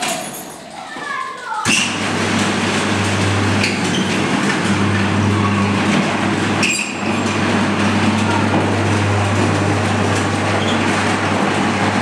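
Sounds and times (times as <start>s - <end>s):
metal roller shutter rattling: 0.0s - 12.0s.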